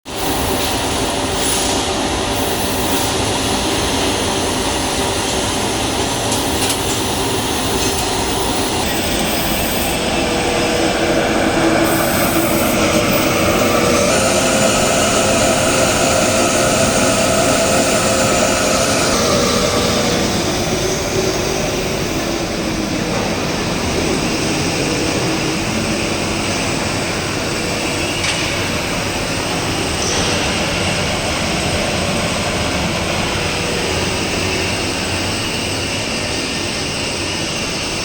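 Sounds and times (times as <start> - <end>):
laser cutting machine rushing: 0.2 - 36.3.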